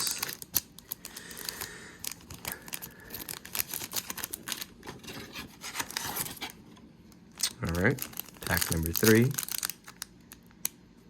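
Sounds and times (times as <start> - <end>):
cards and foil wrappers handled: 0.0 - 6.6, 7.3 - 10.8.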